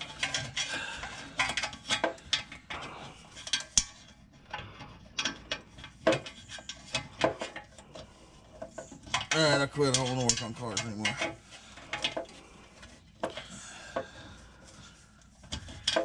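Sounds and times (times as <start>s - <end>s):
wrench clinking and scraping metal: 0.0s - 16.0s.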